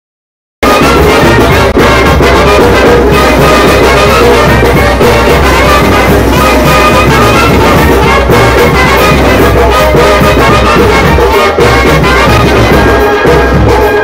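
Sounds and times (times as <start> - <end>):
brass band playing: 0.6 - 14.0.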